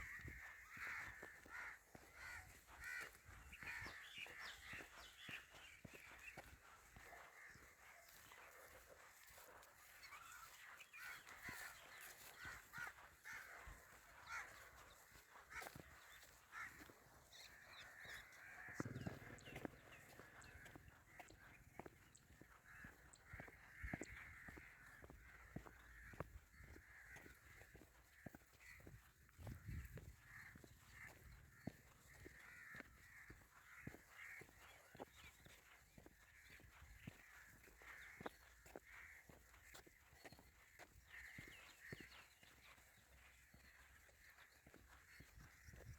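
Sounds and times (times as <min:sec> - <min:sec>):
bird calls and chirps: 0:00.0 - 0:45.9
crows cawing: 0:00.0 - 0:45.9
soft footsteps on path: 0:00.0 - 0:45.9.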